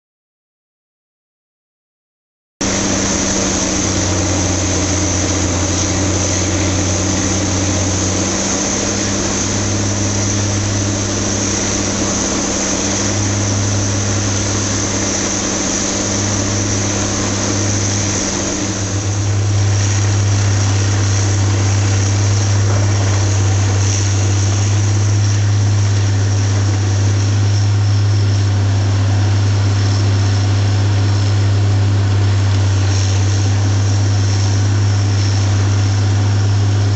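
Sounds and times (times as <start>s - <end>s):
machine engine running: 2.6s - 36.9s.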